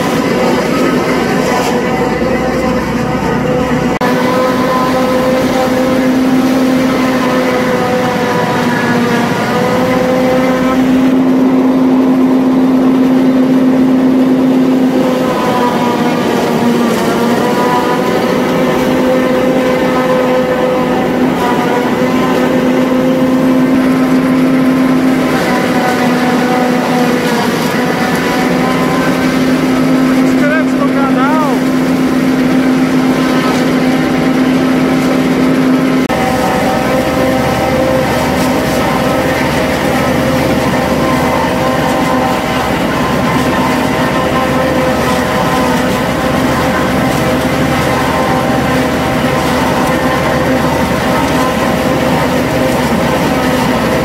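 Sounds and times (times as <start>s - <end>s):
constant humming tone: 0.0s - 54.0s
diesel farm machinery droning: 0.0s - 54.0s
tractor engine running: 0.0s - 54.0s.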